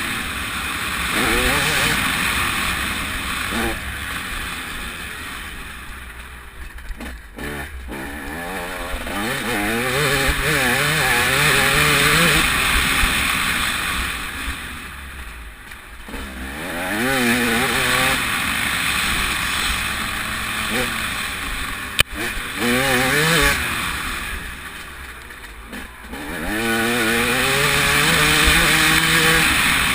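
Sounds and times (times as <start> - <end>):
motocross bike engine revving: 0.0 - 15.3, 16.0 - 29.9.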